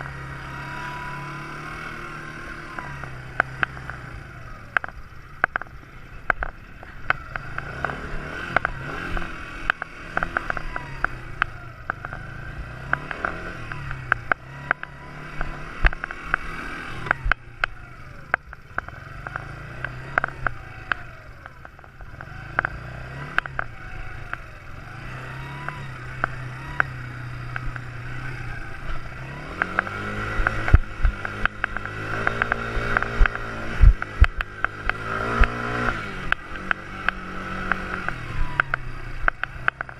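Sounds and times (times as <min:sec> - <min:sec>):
quad bike engine revving: 0:00.0 - 0:39.9
sharp clicks and knocks: 0:02.7 - 0:04.1, 0:04.7 - 0:12.2, 0:12.8 - 0:24.5, 0:25.6 - 0:28.0, 0:28.8 - 0:39.9.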